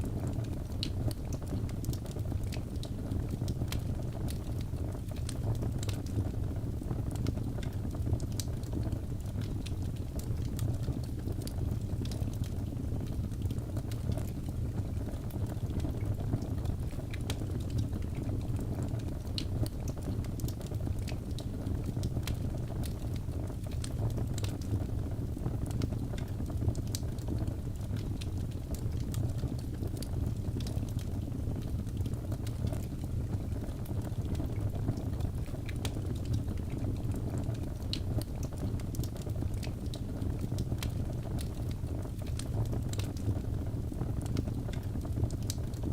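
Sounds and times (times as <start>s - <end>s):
flames rumbling: 0.0s - 45.9s
logs crackling and popping: 0.0s - 45.9s.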